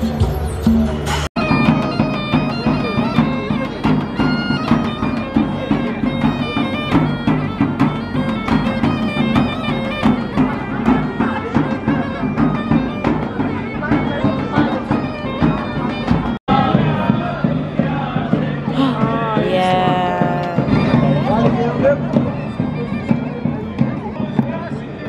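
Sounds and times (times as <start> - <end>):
frame drum beat: 0.9 - 24.6
bagpipe folk melody: 1.4 - 25.0.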